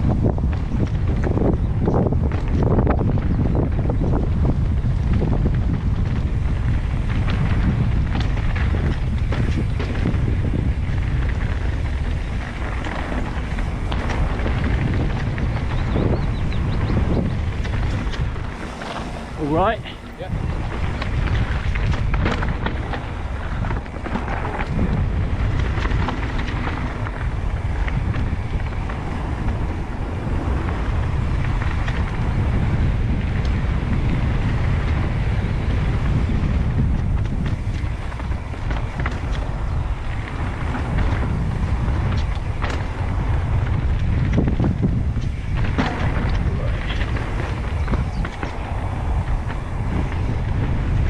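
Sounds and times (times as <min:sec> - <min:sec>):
bike clicks and rattles: 0:00.0 - 0:51.0
bike tyres rumbling on dirt: 0:00.0 - 0:51.0
wind buffeting microphone: 0:00.0 - 0:51.0.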